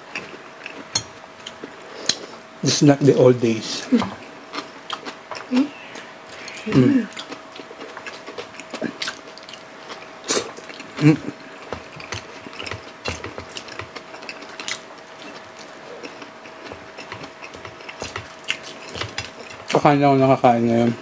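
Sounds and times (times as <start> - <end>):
people chewing food: 0.0 - 21.0.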